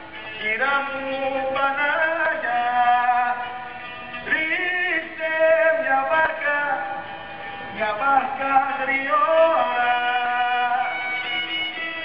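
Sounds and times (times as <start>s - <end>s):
man singing long held notes: 0.0s - 12.0s.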